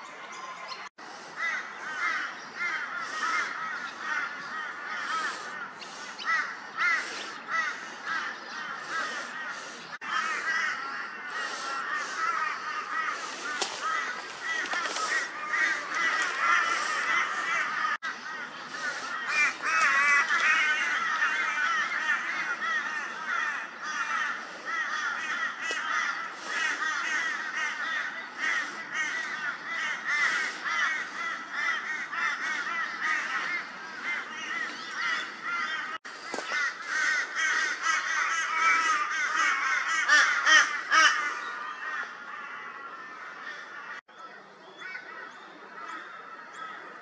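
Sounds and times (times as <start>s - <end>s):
flock of birds warbling: 0.0s - 47.0s.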